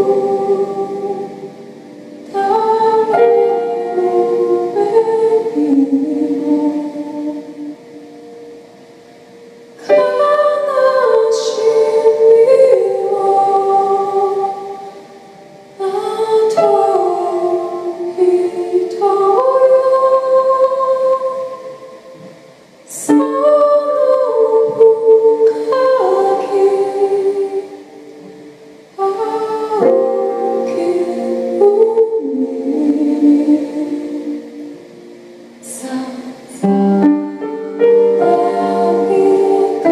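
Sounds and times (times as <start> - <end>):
keyboard accompaniment: 0.0 - 39.9
woman singing long notes: 0.0 - 39.9.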